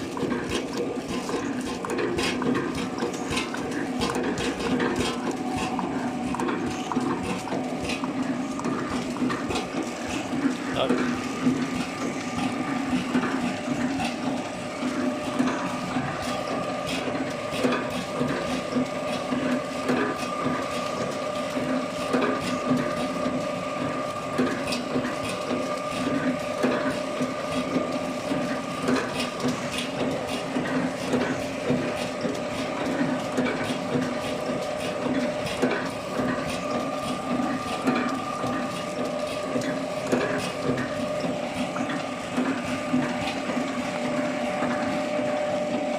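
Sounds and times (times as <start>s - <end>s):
packaging machine humming: 0.0s - 45.9s.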